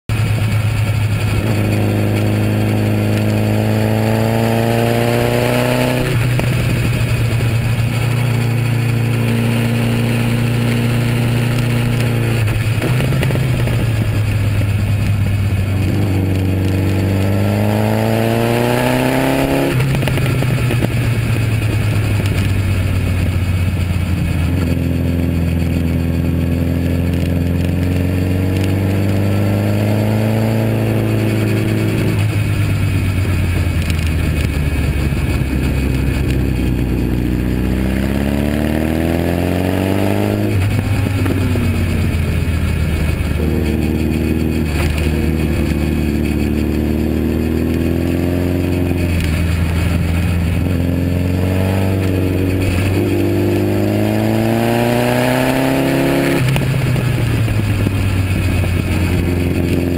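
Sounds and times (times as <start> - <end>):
motorcycle engine revving: 0.0 - 59.9
rush of wind: 0.1 - 59.9.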